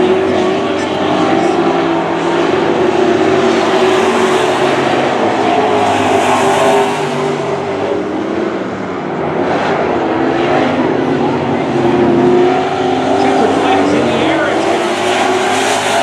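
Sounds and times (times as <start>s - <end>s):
racing truck engines: 0.0s - 16.0s
tyre and road noise: 0.0s - 16.0s.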